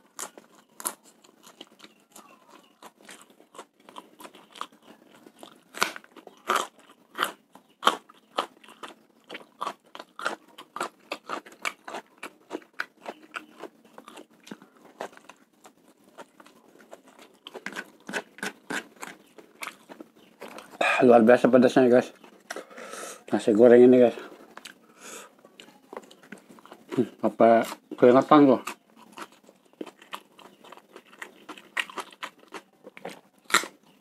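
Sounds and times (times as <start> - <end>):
person chewing crunchy food: 0.0 - 21.0, 22.0 - 23.4, 24.2 - 34.0.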